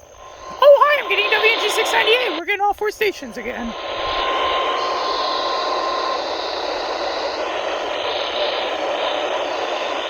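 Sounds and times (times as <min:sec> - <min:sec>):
faint steady tone: 0:00.0 - 0:10.0
radio static hiss: 0:00.0 - 0:10.0.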